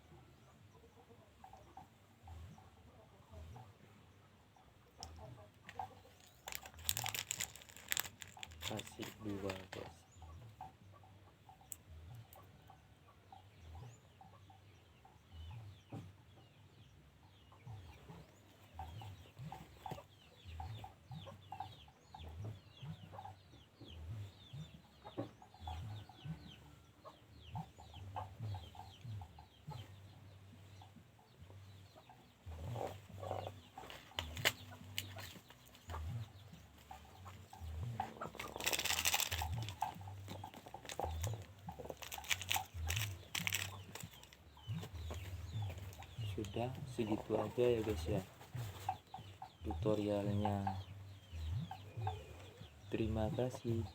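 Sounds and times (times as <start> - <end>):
chicken clucking: 0.1 - 7.6, 17.3 - 53.9.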